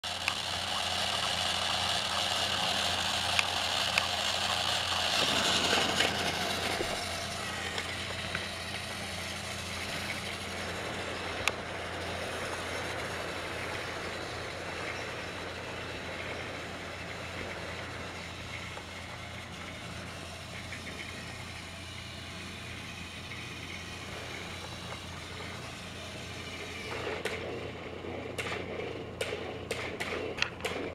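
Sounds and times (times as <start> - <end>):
toy train motor whirring: 0.0 - 29.1.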